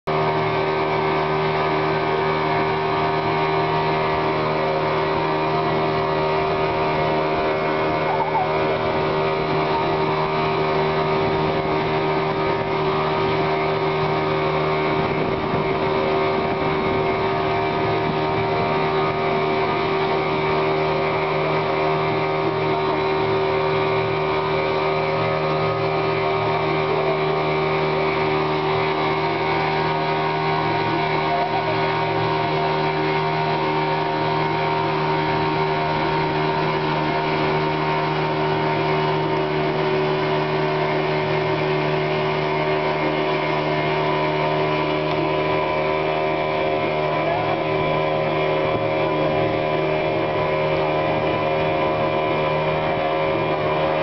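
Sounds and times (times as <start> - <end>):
boat outboard motor droning: 0.0 - 54.0.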